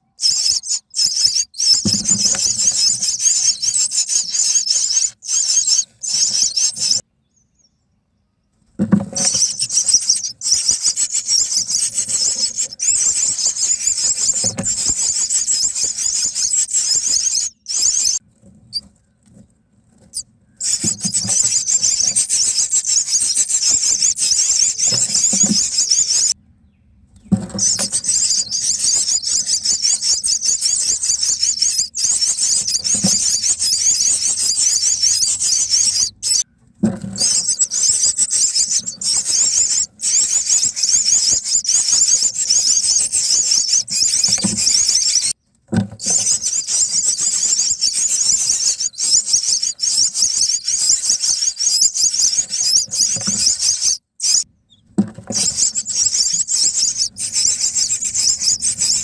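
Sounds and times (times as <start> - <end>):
nestlings begging chatter: 0.0 - 7.0, 9.0 - 18.2, 20.1 - 26.4, 27.5 - 36.4, 37.2 - 45.4, 46.0 - 54.4, 55.3 - 59.0.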